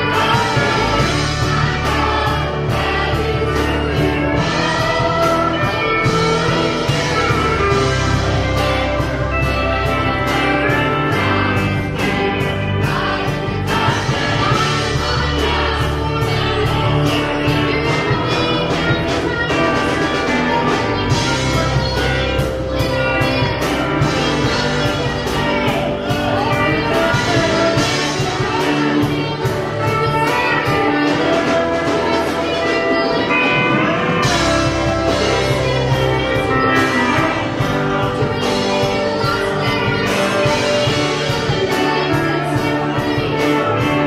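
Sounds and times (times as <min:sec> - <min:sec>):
band playing steady beat: 0:00.0 - 0:44.0
choir singing: 0:00.0 - 0:44.0.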